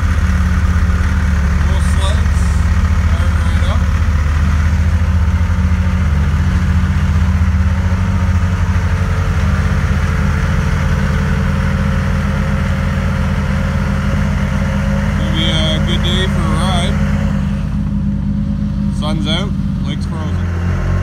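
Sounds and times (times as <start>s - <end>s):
snowmobile engines idling: 0.0s - 21.0s.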